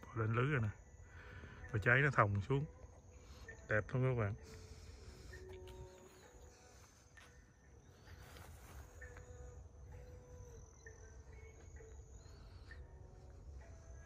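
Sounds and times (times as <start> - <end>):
high-pitched insect trill: 0.0 - 14.0.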